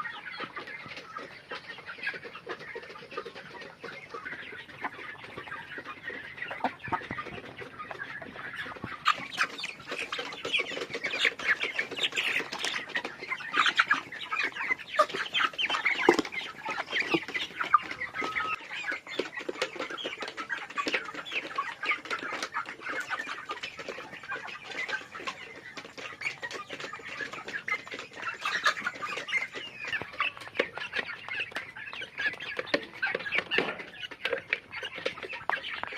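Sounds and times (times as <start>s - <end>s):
chickens clucking: 0.0s - 35.9s.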